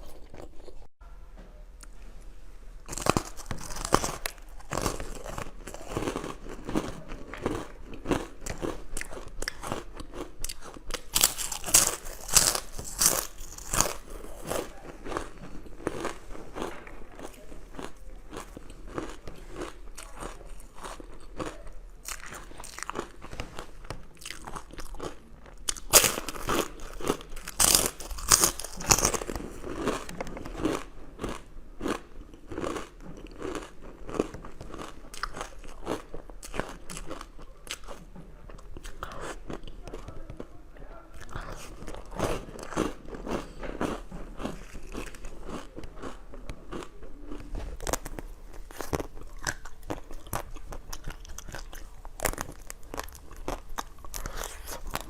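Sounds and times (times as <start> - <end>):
person chewing crunchy food: 0.0 - 0.9, 2.8 - 55.0.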